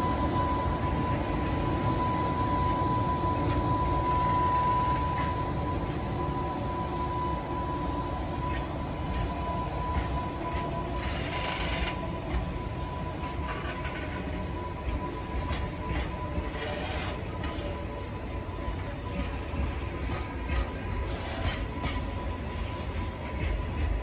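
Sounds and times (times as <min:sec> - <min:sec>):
freight train rolling past: 0:00.0 - 0:24.0
thin high whine: 0:00.0 - 0:24.0.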